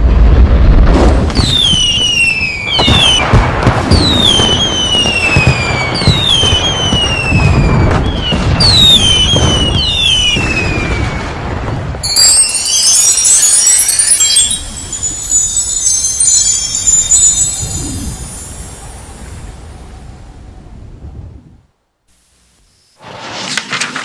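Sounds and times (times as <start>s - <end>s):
fireworks bangs and crackling: 0.0s - 21.5s
whistling fireworks: 0.0s - 23.9s.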